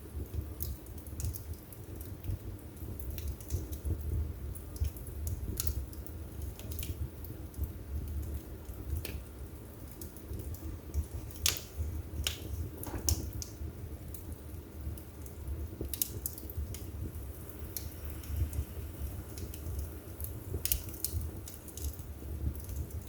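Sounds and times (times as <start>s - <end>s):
fire crackling and popping: 0.0s - 23.0s
fire flames rumbling: 0.0s - 23.0s.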